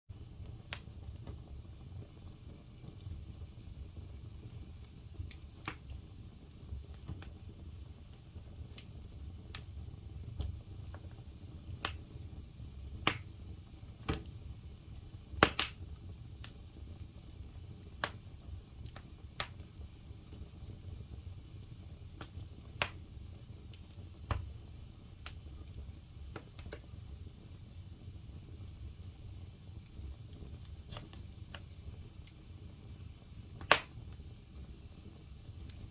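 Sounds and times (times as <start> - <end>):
low rumble of flames: 0.1 - 35.9
wood fire crackling and popping: 0.1 - 35.9.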